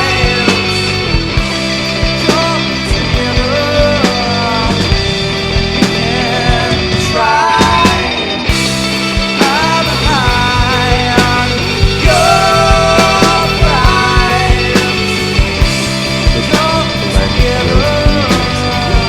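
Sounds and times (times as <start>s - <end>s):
person singing: 0.0s - 8.6s, 9.2s - 19.0s
bass guitar: 0.0s - 19.0s.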